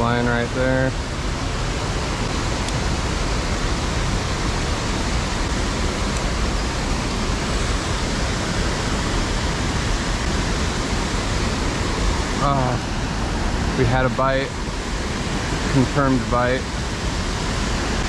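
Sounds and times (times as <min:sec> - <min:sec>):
water rushing over spillway: 0:00.0 - 0:18.0.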